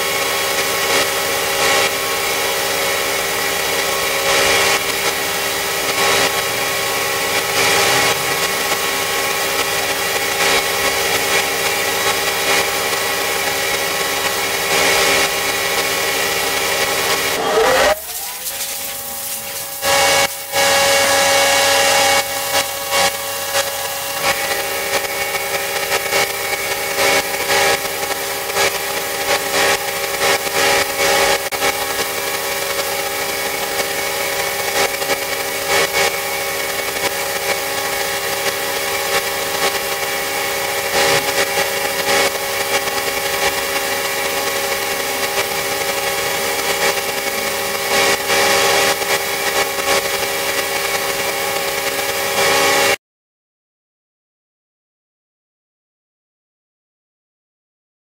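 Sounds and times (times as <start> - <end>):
power tool motor whining: 0.0 - 52.9.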